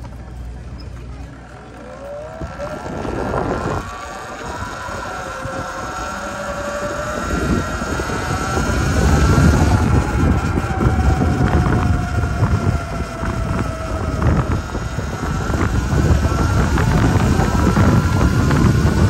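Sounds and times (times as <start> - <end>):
electric motor whine rising: 0.0 - 19.0
wind rumble on microphone: 0.0 - 19.0.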